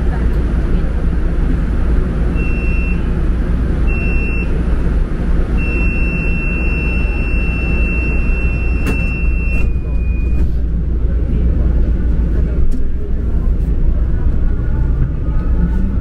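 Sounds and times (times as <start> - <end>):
train car rumble: 0.0 - 16.0.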